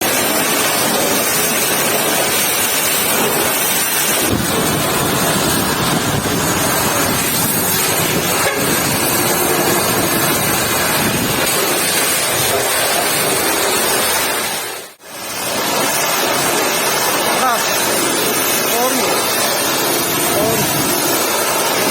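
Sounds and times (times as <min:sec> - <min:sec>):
pressure washer spraying water: 0:00.0 - 0:21.9.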